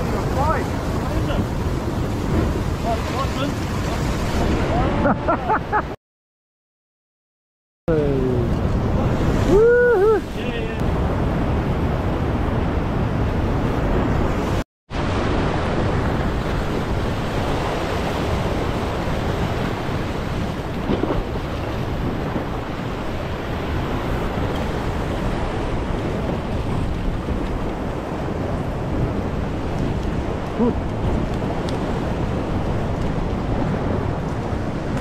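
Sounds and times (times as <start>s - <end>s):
wind buffeting microphone: 0.0s - 5.3s, 8.3s - 35.0s
surf washing over rocks: 0.0s - 5.8s, 8.4s - 35.0s.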